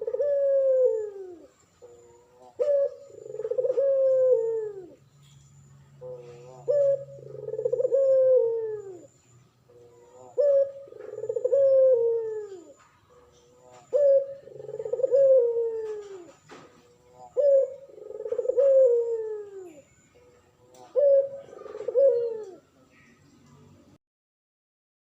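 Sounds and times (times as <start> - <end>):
turtle dove cooing: 0.0 - 5.1, 5.8 - 23.2.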